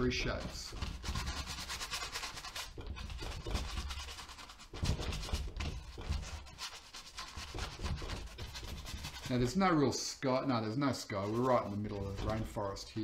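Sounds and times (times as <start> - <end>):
paintbrush scrubbing on canvas: 0.0 - 9.8, 11.0 - 13.0.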